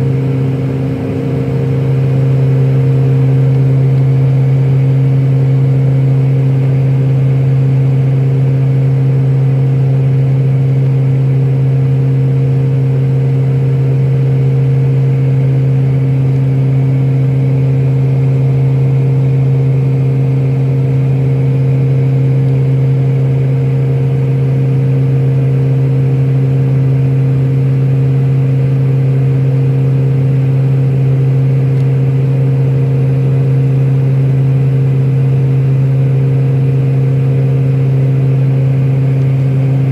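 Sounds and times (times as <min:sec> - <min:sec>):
airplane engine drone in cabin: 0:00.0 - 0:39.9.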